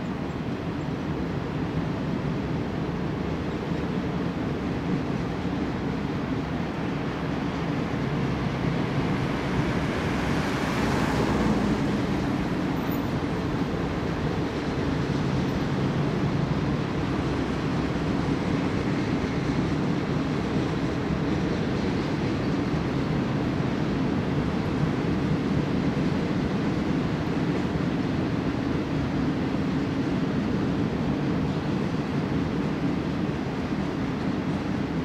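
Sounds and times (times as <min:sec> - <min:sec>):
train wheels rumbling on rails: 0:00.5 - 0:35.0.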